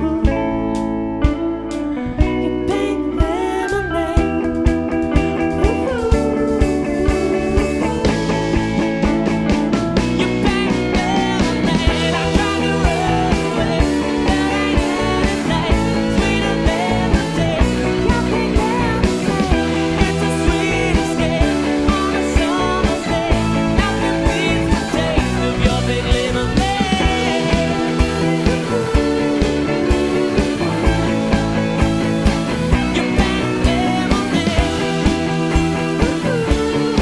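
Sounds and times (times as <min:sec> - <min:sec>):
bass: 0:00.0 - 0:37.0
electric guitar: 0:00.0 - 0:37.0
steady drum beat: 0:04.2 - 0:37.0.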